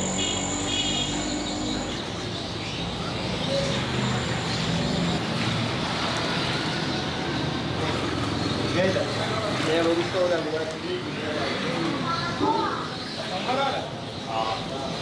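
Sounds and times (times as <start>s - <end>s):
traffic hum: 0.0s - 15.0s.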